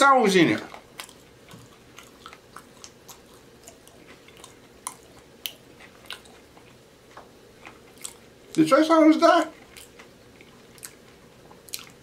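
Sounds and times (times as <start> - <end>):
person chewing fried food: 0.7 - 8.6, 9.5 - 12.0.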